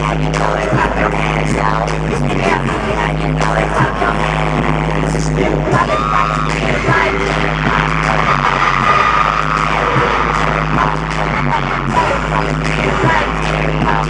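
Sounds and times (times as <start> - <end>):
person singing: 0.0 - 14.0
pop dance music over sound system: 0.0 - 14.0.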